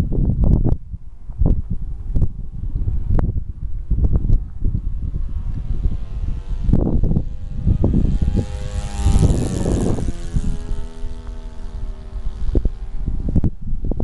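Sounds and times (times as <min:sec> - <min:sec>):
model airplane engine droning: 0:00.0 - 0:14.0
wind buffeting microphone: 0:00.0 - 0:14.0.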